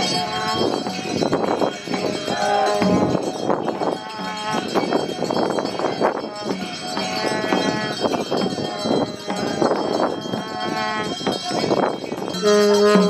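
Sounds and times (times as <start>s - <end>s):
bells and cymbals clanging: 0.0s - 13.0s.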